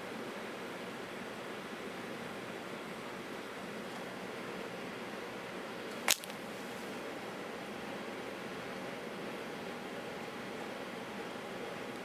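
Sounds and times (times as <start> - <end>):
standing train hum and hiss: 0.0 - 12.0.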